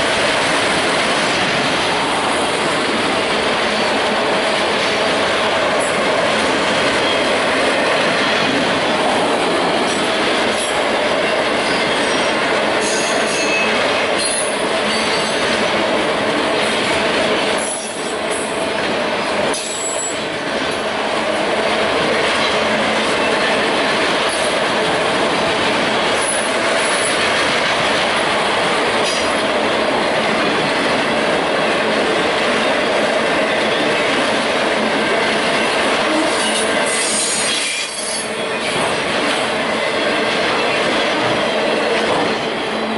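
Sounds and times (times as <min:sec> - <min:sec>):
train wheels rolling on rails: 0:00.0 - 0:42.9.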